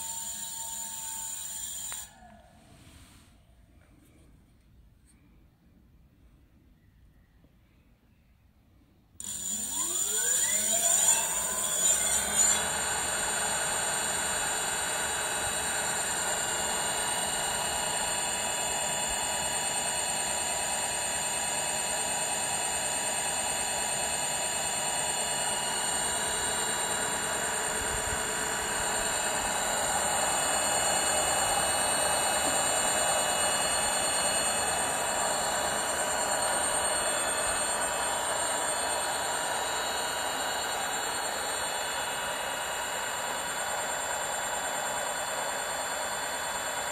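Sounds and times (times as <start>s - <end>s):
electric hub motor whine: 0.0s - 2.4s, 9.2s - 46.9s.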